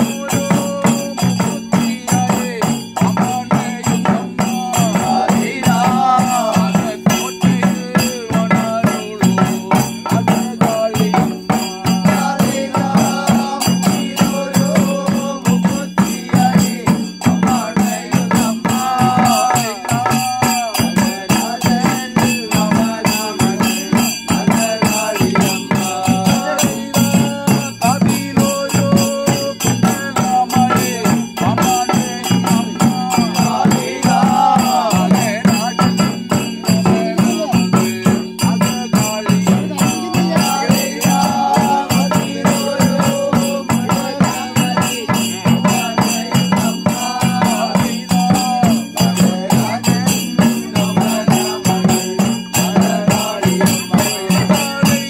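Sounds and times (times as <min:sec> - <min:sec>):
drums beating rapidly: 0:00.0 - 0:55.0.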